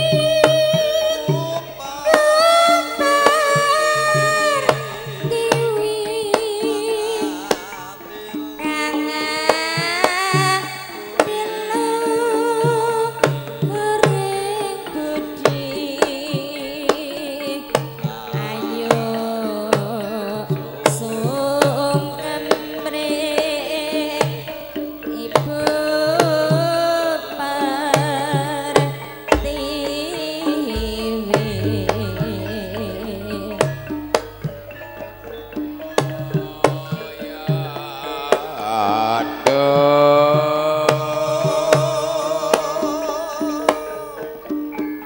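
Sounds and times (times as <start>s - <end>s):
woman singing ornamented melody: 0.0s - 7.7s, 8.4s - 38.0s
gamelan accompaniment: 0.0s - 45.0s
hand drum strokes: 0.0s - 45.0s.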